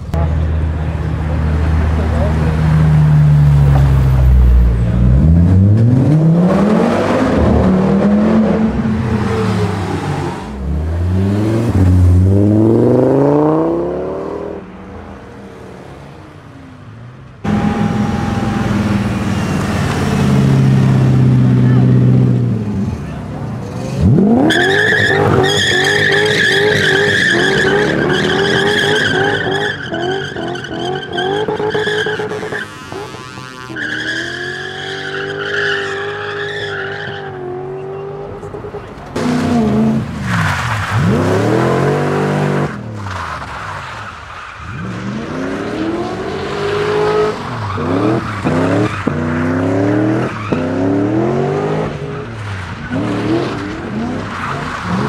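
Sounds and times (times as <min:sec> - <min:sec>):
car engine revving: 0:00.0 - 0:16.5, 0:17.4 - 0:55.0.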